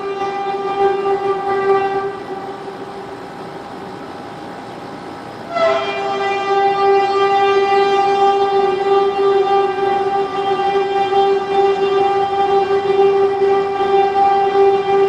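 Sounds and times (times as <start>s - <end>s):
horn-like drone: 0.0s - 3.3s, 5.5s - 15.0s.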